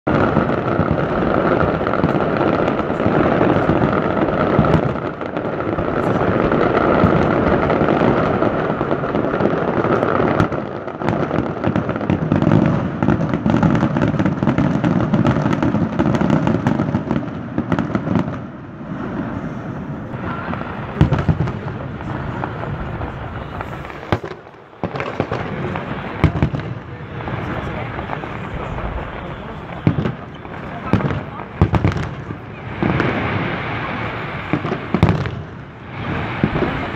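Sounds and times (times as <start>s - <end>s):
fireworks booming and crackling: 0.0s - 36.9s
sharp firework bangs: 0.1s - 36.9s.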